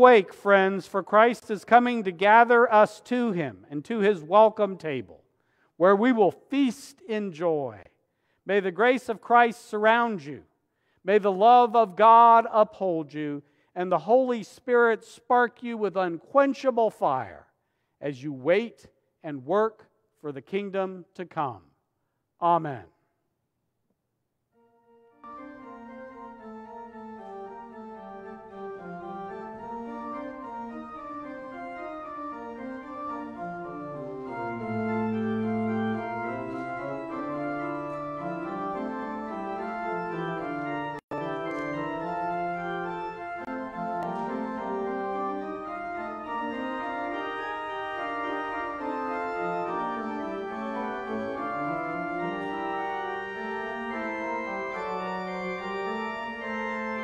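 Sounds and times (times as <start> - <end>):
church organ playing chords: 0.0 - 5.2, 8.5 - 10.4, 11.1 - 17.3, 24.6 - 57.0.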